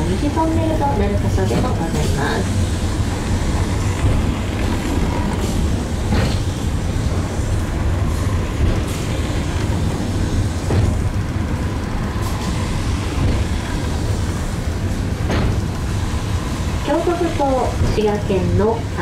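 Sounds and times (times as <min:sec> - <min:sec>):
funicular car rumbling: 0:00.0 - 0:19.0.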